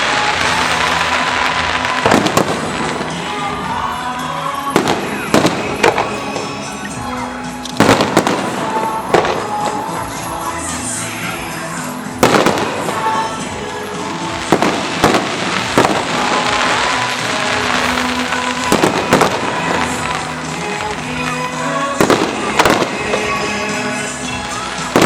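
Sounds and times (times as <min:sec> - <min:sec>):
fireworks bursting: 0:00.0 - 0:25.0
fireworks crackling: 0:00.0 - 0:25.0
music: 0:00.0 - 0:25.0.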